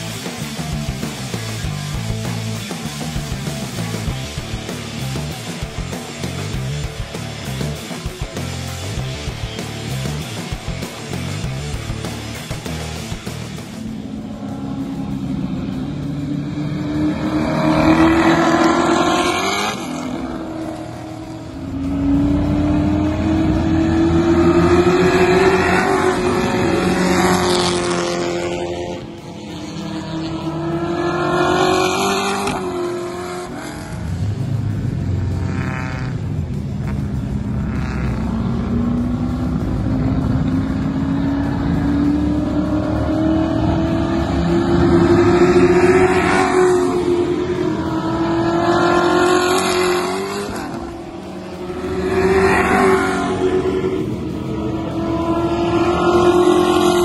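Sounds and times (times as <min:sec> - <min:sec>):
race car engines accelerating past: 0:00.0 - 0:57.0.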